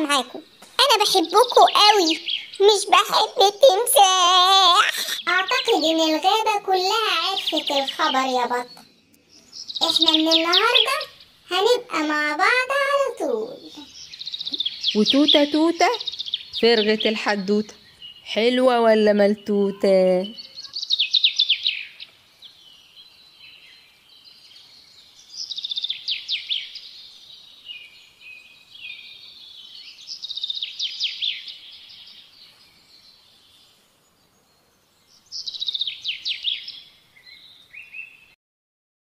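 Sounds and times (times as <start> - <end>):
songbird singing high notes: 0.0 - 33.8
soft bird chirps: 0.0 - 38.4.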